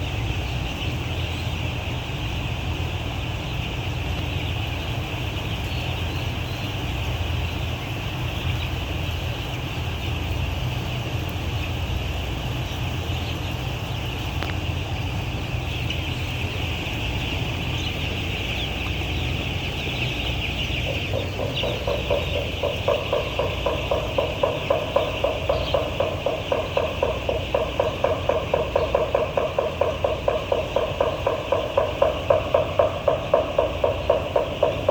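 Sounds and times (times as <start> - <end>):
chickens clucking: 0.0 - 34.9
rhythmic mechanical clatter: 0.0 - 34.9
steady low hum: 0.0 - 34.9.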